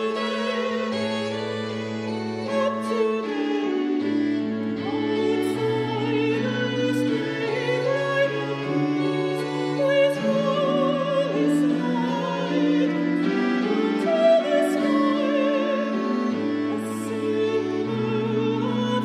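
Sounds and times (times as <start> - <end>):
soprano singing with vibrato: 0.0 - 19.0.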